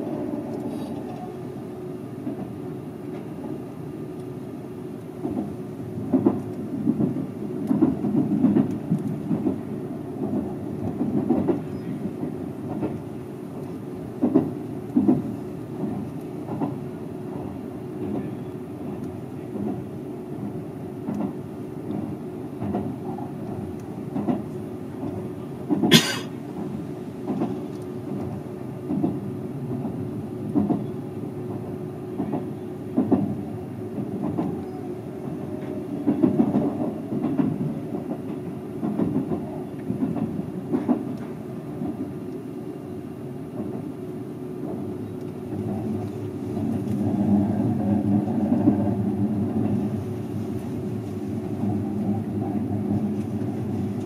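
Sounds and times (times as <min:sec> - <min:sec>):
train rolling rumble: 0:00.0 - 0:54.0.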